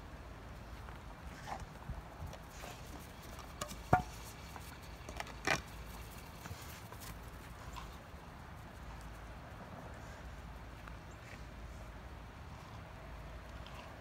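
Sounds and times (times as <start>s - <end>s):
dog paws pattering on snow: 0.5s - 11.9s.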